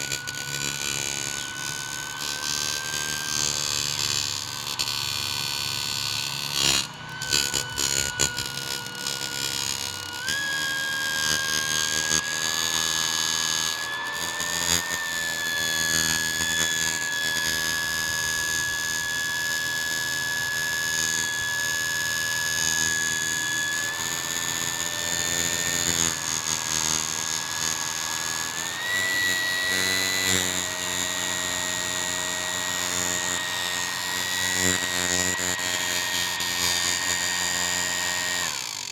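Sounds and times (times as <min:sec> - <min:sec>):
electric fan motor whining: 0:00.0 - 0:38.9.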